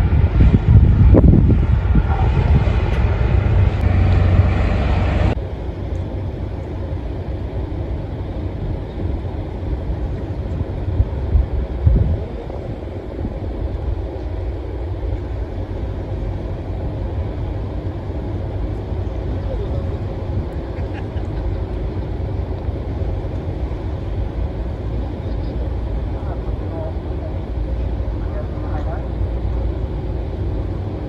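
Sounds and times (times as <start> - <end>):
boat engine rumble: 0.0 - 31.0
wind buffeting microphone: 0.0 - 31.0.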